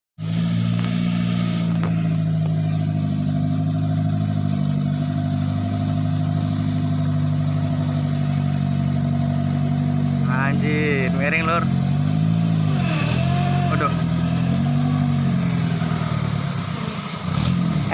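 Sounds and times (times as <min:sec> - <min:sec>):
vehicle engine idling: 0:00.2 - 0:17.9.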